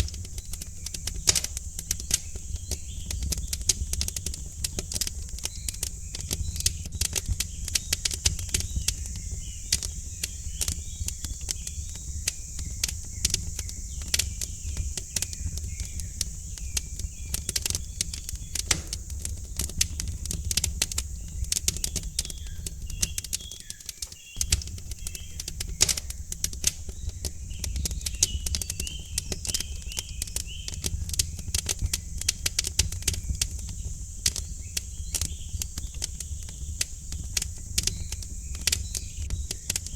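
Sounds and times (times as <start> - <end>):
small birds chirping: 0.0 - 39.9
wood fire crackling and popping: 0.0 - 39.9.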